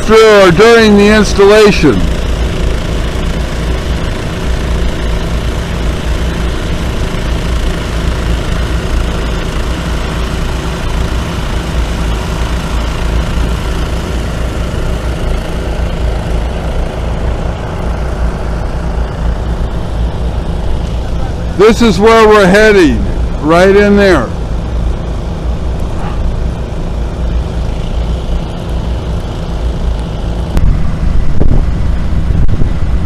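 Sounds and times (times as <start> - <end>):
engine droning: 0.0 - 33.0.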